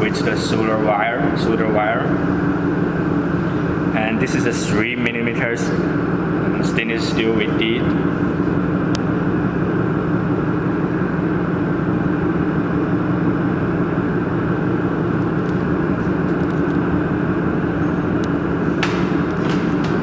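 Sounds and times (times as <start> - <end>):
mechanical drone with hum: 0.0 - 20.0.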